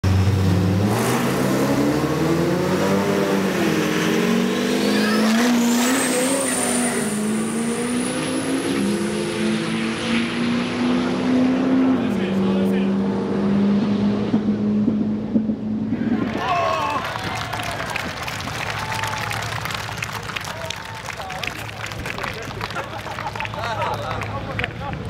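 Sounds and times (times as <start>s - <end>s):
truck engine accelerating: 0.0s - 25.0s.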